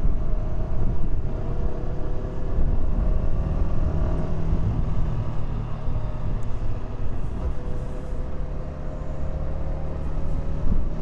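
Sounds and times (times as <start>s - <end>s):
wind rushing on microphone: 0.0s - 8.6s, 9.8s - 11.0s.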